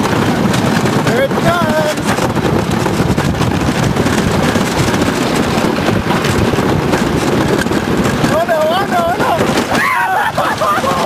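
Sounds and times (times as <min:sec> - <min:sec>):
roller coaster rumbling on wooden track: 0:00.0 - 0:11.0
wind buffeting microphone: 0:00.0 - 0:11.0.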